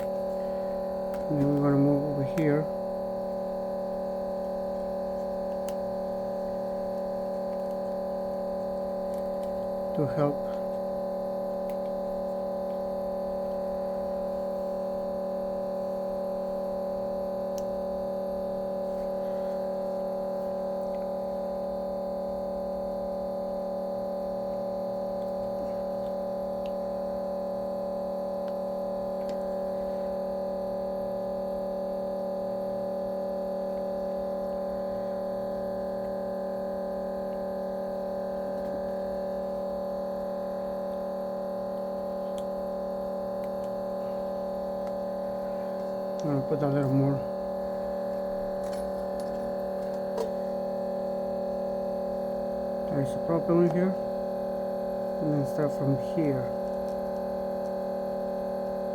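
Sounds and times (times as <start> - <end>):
electrical hum: 0.0 - 58.9.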